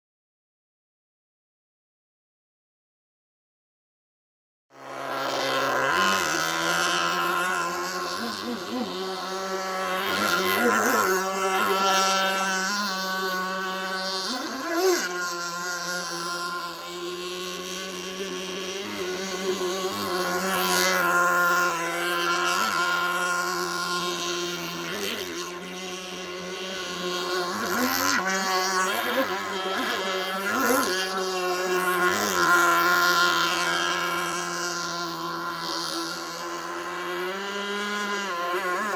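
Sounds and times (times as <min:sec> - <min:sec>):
small two-stroke engine high revs: 0:04.7 - 0:38.9.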